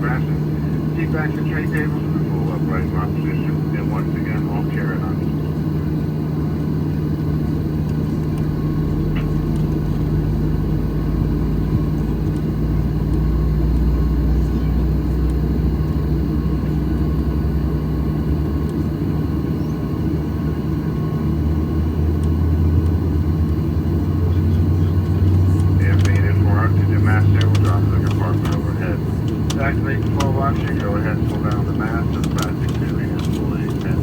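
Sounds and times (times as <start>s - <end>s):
airliner cabin drone: 0.0s - 34.0s.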